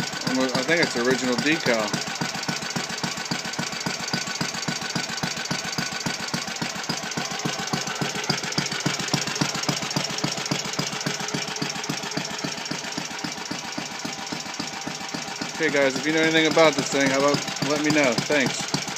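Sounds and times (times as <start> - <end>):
stationary engine running: 0.0 - 18.9.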